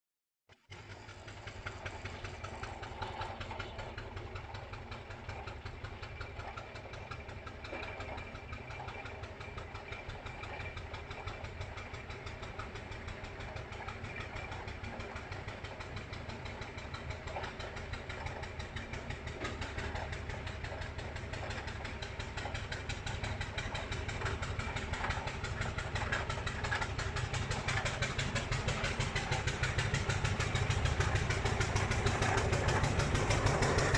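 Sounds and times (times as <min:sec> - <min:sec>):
steam roller engine beating: 0:00.7 - 0:33.9.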